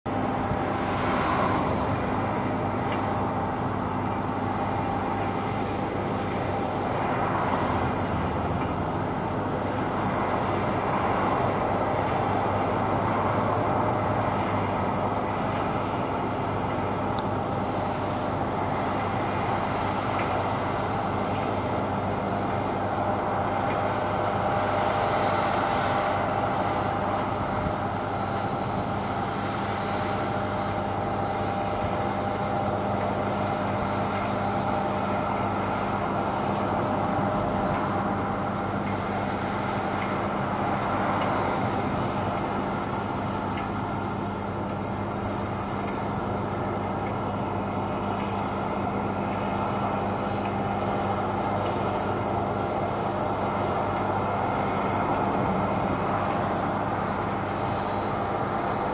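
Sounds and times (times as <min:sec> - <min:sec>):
combine harvester running: 0:00.1 - 0:58.9.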